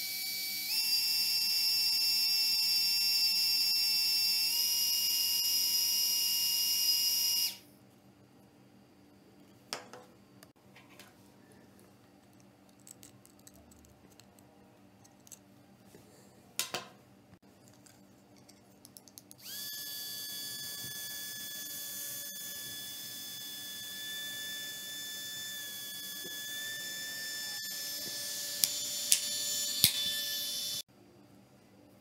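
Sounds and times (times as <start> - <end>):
small cooling fan whining: 0.0 - 32.0.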